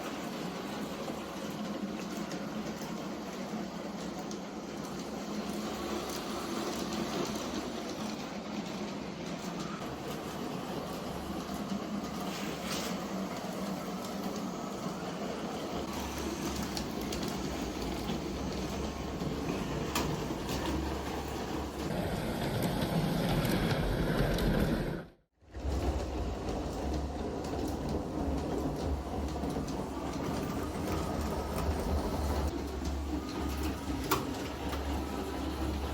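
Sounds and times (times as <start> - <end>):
model train rolling on track: 0.0 - 35.9.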